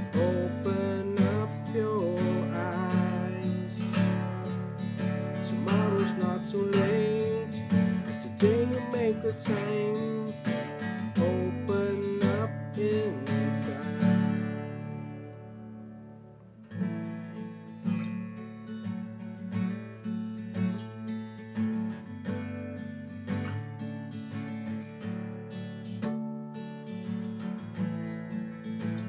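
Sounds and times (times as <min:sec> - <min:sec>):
acoustic guitar strummed and picked: 0:00.0 - 0:29.0.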